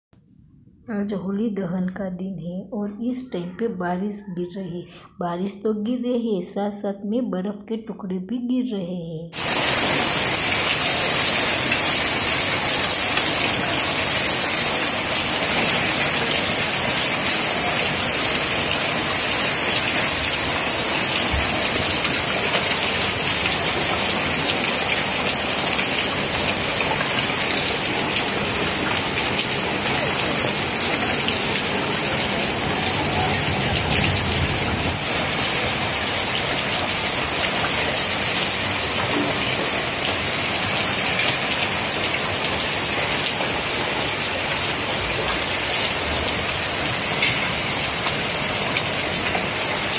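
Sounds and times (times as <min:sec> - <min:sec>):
heavy rain and hail on concrete: 0:09.4 - 0:49.9.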